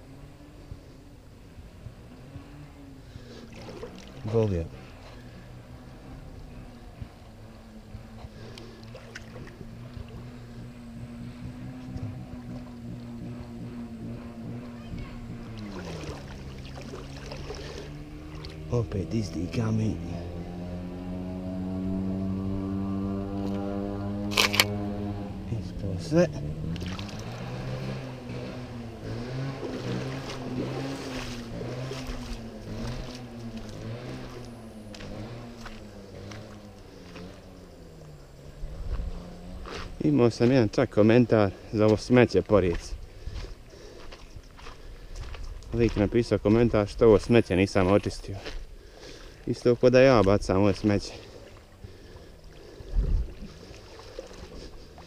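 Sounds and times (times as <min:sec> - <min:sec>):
steady low hum: 0:00.0 - 0:55.0
stream water being stirred: 0:01.5 - 0:20.1, 0:25.5 - 0:55.0.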